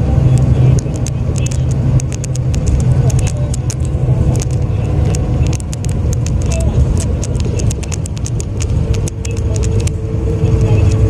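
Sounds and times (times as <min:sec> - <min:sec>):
sharp clicks and ticks: 0:00.0 - 0:11.0.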